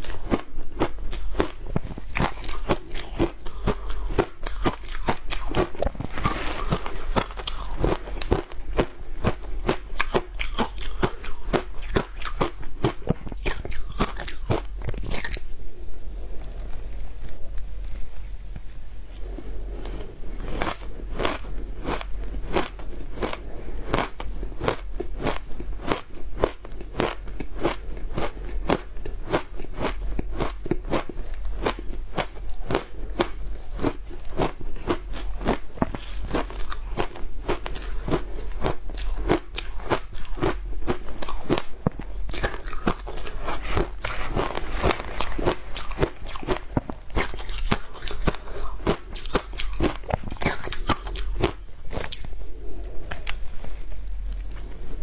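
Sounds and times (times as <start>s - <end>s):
person crunching and chewing ice: 0.0s - 15.6s, 19.2s - 55.0s.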